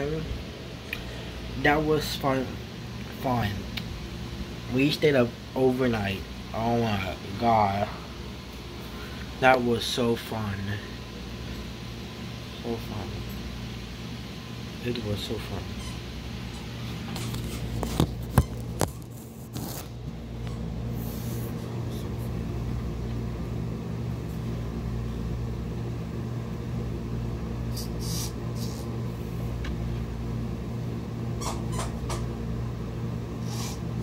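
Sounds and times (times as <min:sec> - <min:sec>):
appliance electrical hum: 0:00.0 - 0:34.0.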